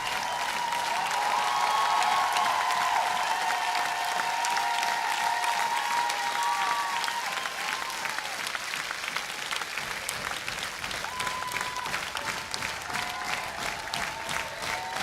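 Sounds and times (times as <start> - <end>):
large audience applauding: 0.0 - 15.0.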